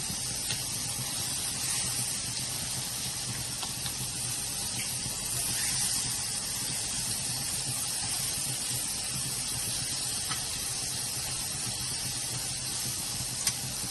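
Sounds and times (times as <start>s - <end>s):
chicken skin sizzling in hot oil: 0.0s - 13.9s
faint crackle of frying: 0.0s - 13.9s.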